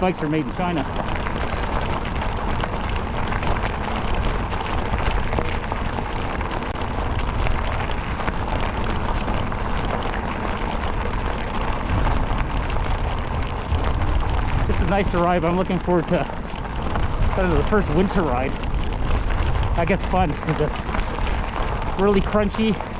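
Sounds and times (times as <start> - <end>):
bike tyres crackling over ground: 0.0 - 22.9
wind rush on microphone: 0.0 - 22.9.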